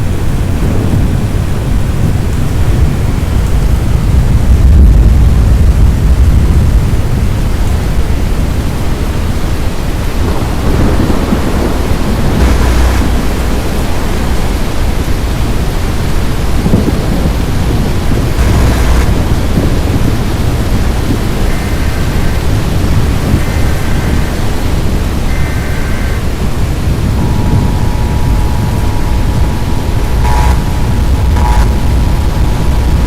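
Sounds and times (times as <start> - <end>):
rain hiss: 0.0 - 33.0
thunder rumble: 0.0 - 33.0.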